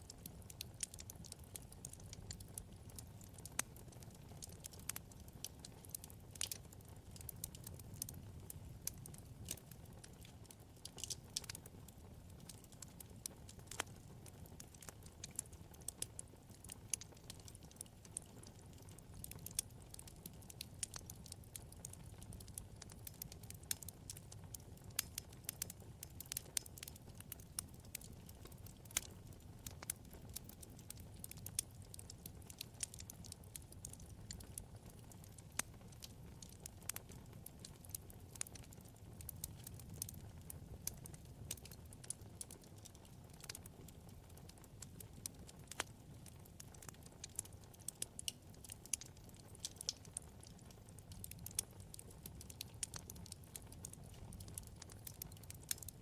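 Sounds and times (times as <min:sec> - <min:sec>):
low rumble of flame: 0:00.0 - 0:56.0
wood fire crackling and popping: 0:00.0 - 0:56.0.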